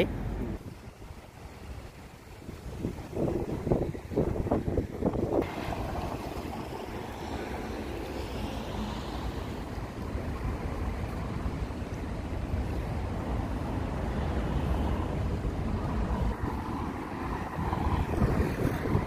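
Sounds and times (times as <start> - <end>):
city street traffic: 0.0 - 2.1, 3.2 - 19.0
wind buffeting microphone: 0.0 - 19.0.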